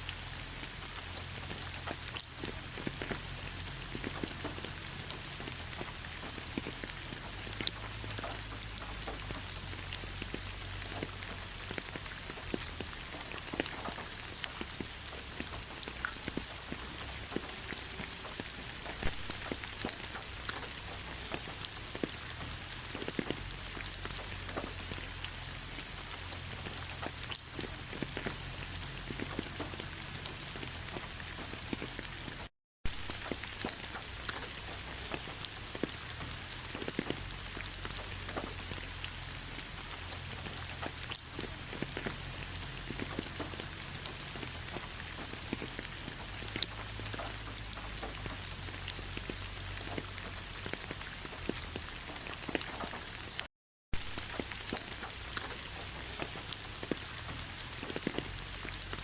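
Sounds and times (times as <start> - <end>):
rain pattering on leaves: 0.0 - 59.0.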